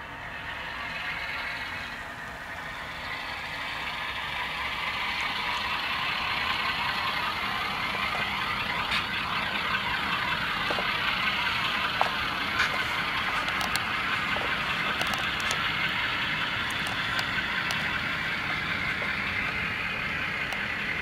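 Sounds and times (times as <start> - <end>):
diesel engine sound from small speaker: 0.0 - 21.0.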